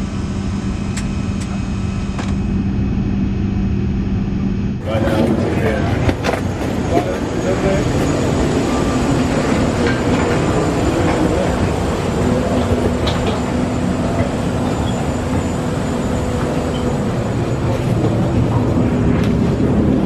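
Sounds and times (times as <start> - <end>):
machinery rumble and hum: 0.0 - 20.0.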